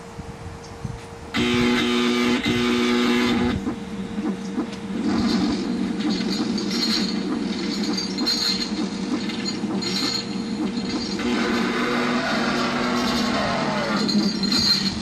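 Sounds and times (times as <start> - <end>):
gear motors whirring and rattling: 1.3 - 15.0.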